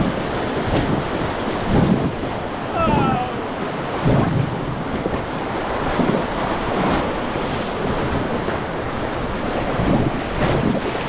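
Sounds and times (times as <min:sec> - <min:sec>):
river white water rushing: 0:00.0 - 0:11.0
wind buffeting microphone: 0:00.0 - 0:11.0.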